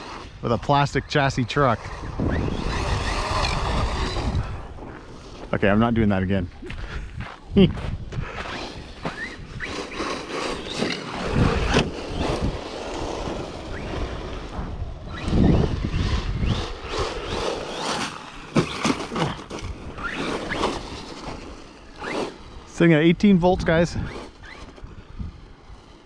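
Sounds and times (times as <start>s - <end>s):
tyre noise: 0.0s - 25.8s
electric motor whining: 1.3s - 5.7s, 8.2s - 26.0s.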